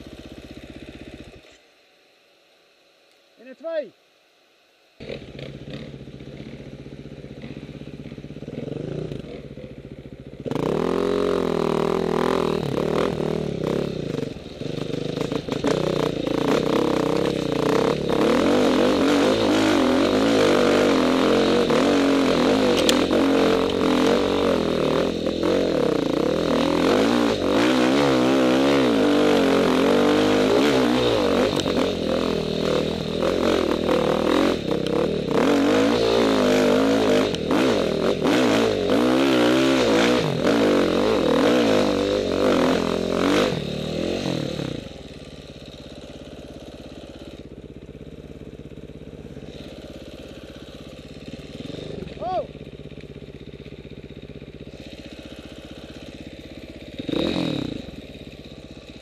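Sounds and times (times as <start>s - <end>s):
motorcycle engine revving: 0.0s - 1.6s, 5.0s - 59.0s.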